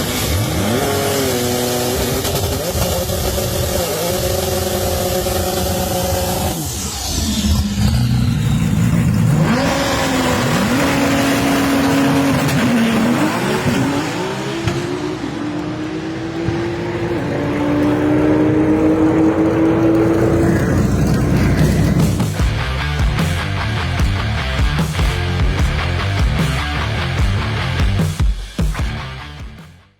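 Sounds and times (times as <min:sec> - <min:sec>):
car engine at full throttle: 0:00.0 - 0:27.9.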